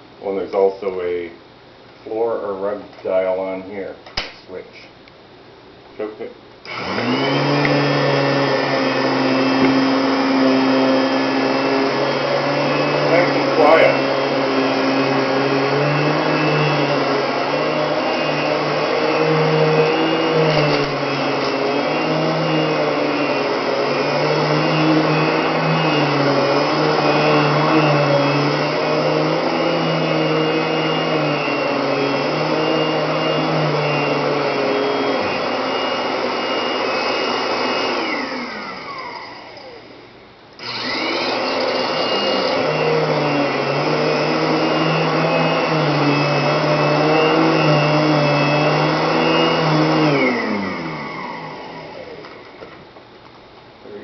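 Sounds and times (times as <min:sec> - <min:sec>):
vacuum cleaner running: 0:06.6 - 0:54.0.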